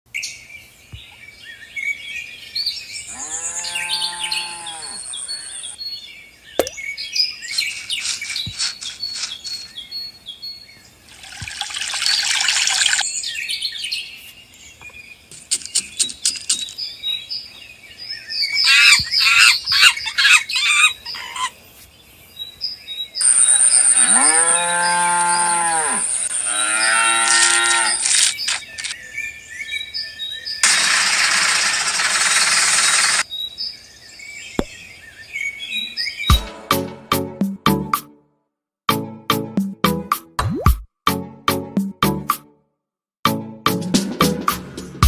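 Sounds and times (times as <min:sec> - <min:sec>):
birds chirping and trilling: 0:00.1 - 0:36.5.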